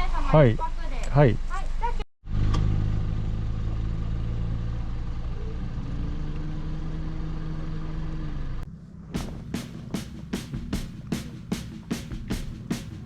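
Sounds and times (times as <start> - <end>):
car engine running: 2.3 - 13.0.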